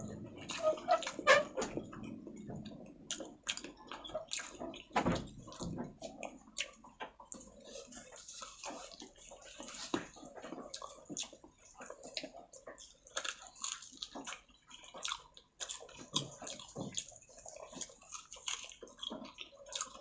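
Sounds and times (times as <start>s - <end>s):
wet chewing and lip-smacking: 0.0s - 20.0s.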